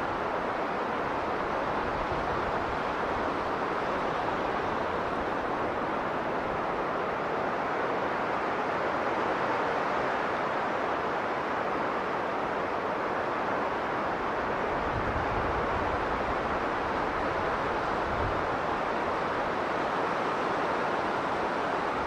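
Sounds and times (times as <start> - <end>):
strong blizzard wind blowing: 0.0 - 22.0.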